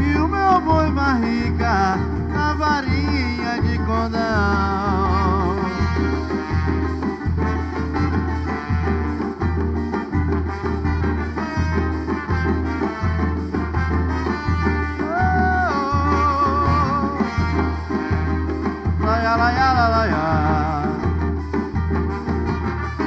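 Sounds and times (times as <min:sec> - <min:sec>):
live band playing: 0:00.0 - 0:23.0
low drum beat: 0:00.0 - 0:23.0.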